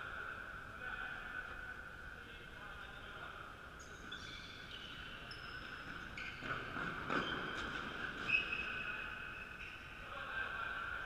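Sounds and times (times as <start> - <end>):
echoing sports hall ambience: 0.0 - 11.0.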